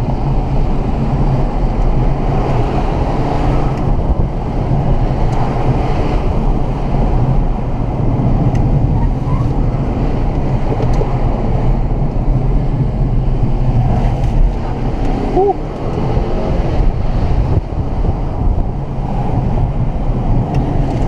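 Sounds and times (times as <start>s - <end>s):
car cabin tyre and engine rumble: 0.0s - 21.0s.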